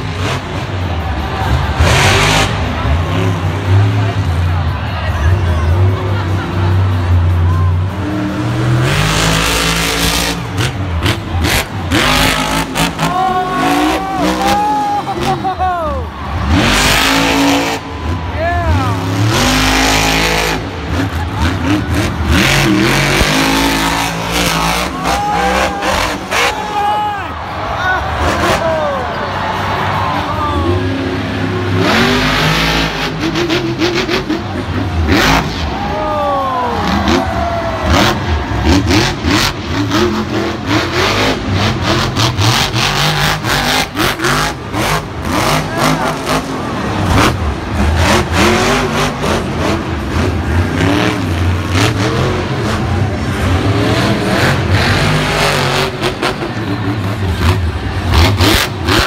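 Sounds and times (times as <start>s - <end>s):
truck engine revving hard: 0.0s - 59.0s.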